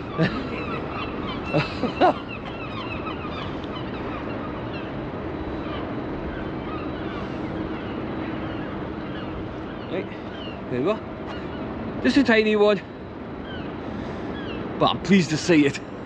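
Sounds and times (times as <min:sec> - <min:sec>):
faint bird calls: 0:00.0 - 0:16.0
low steady hum: 0:00.0 - 0:16.0.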